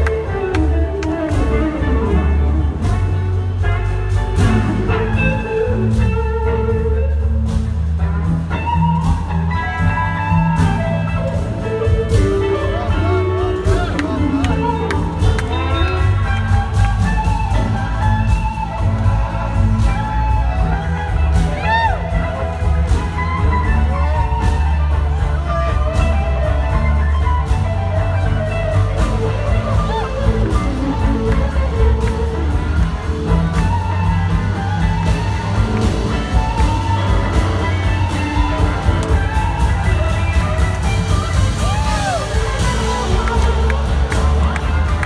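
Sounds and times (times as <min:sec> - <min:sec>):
drums: 0:00.0 - 0:45.0
electric guitar lead lines: 0:00.0 - 0:45.0
heavy bass line: 0:00.0 - 0:45.0.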